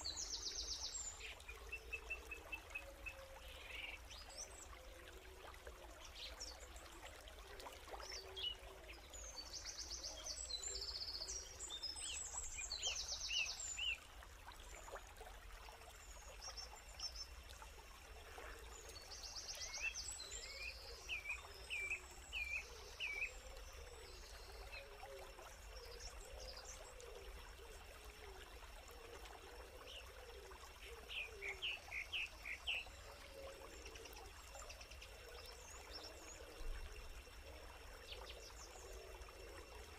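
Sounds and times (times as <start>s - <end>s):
faint creek trickle: 0.0s - 39.9s.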